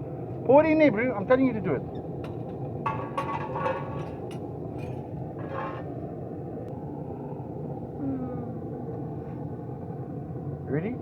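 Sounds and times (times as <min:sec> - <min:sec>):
furnace burner rumbling: 0:00.0 - 0:11.0.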